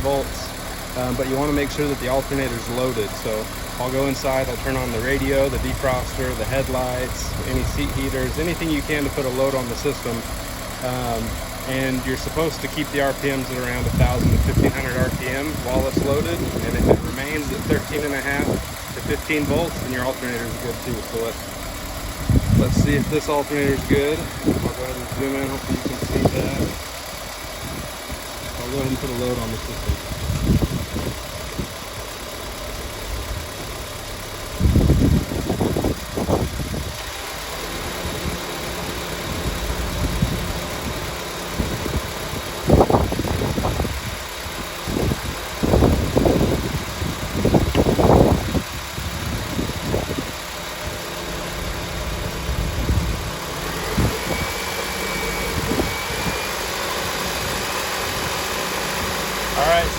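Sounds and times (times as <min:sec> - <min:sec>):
car engine idling: 0:00.0 - 0:59.9
loud irregular noises: 0:00.0 - 0:59.9.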